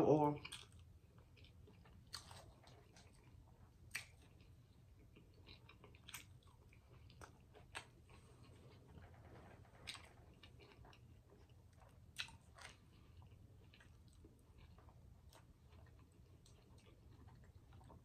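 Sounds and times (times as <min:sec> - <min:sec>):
chewing and mouth sounds: 0:00.3 - 0:18.0.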